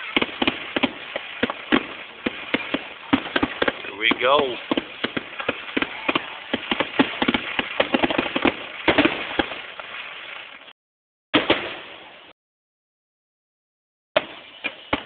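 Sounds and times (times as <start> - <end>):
fireworks popping and banging: 0.0 - 10.7, 11.3 - 12.0, 14.2 - 15.0.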